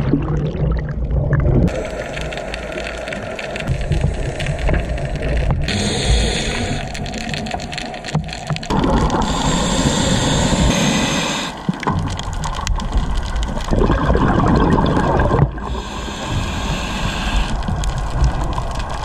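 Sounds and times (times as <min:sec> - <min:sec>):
muffled underwater water rush: 0:00.0 - 0:19.0.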